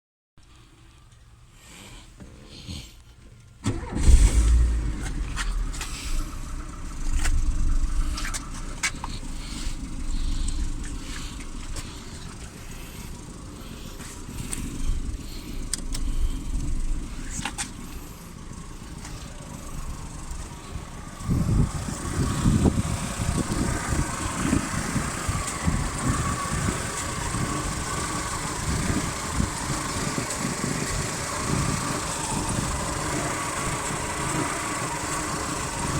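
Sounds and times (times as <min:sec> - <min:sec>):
car engine starting and running: 0:00.4 - 0:35.9.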